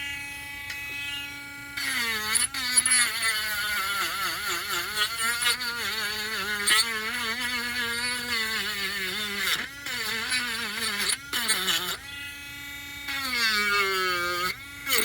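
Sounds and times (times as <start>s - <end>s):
electric sander running: 0.0s - 15.0s.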